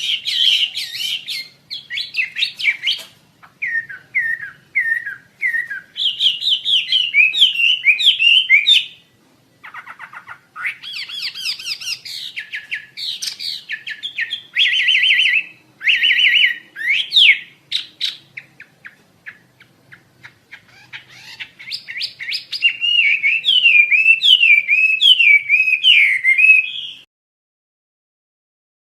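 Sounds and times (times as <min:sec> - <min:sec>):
songbird singing: 0:00.0 - 0:27.1.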